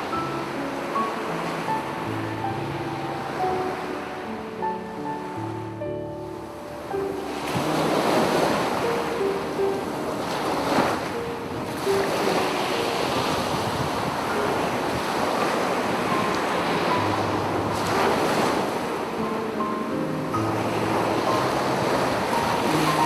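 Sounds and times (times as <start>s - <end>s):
sea waves breaking on a beach: 0.0s - 23.0s
soft piano music: 0.0s - 23.0s.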